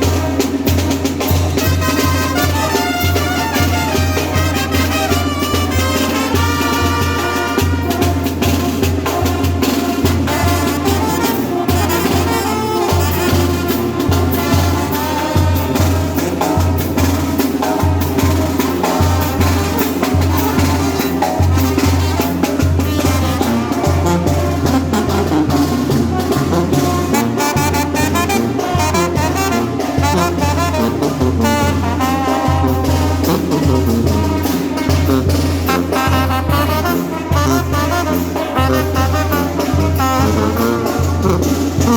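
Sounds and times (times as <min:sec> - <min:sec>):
brass band playing: 0:00.0 - 0:41.9.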